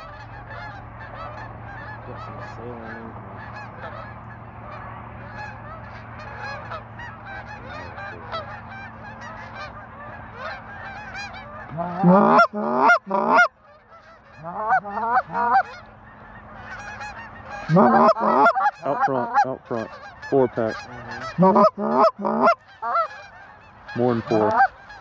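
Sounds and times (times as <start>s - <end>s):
close geese honking: 0.0s - 25.0s
distant geese honking: 0.0s - 25.0s.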